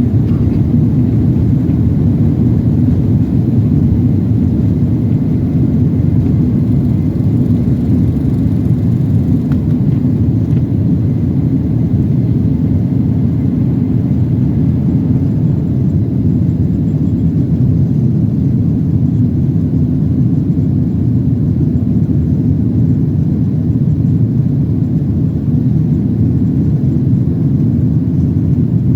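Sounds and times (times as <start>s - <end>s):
jet engine cabin rumble: 0.0s - 28.9s.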